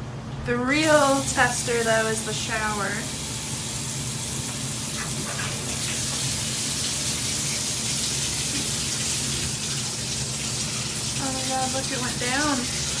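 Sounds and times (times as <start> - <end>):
shower water spraying: 0.8 - 13.0.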